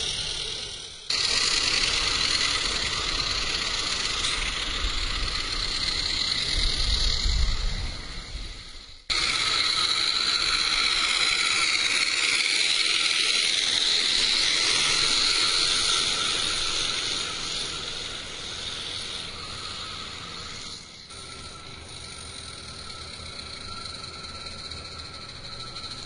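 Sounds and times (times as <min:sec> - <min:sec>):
steam exhaust hissing: 0:00.0 - 0:26.0.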